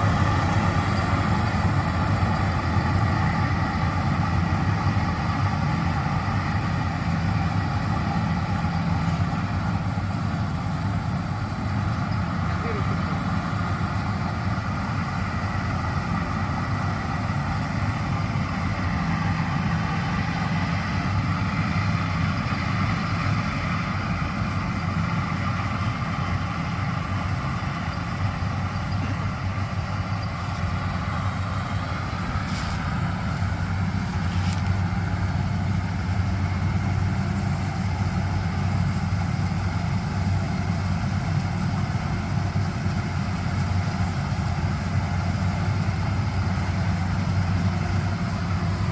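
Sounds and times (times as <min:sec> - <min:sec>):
diesel engine humming: 0:00.0 - 0:48.9
threshing machinery noise: 0:00.0 - 0:48.9.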